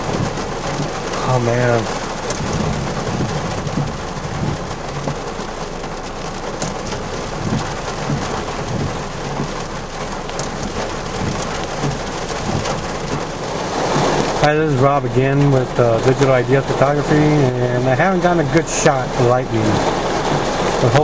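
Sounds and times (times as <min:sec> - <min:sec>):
heavy rain drumming on car roof: 0:00.0 - 0:21.0.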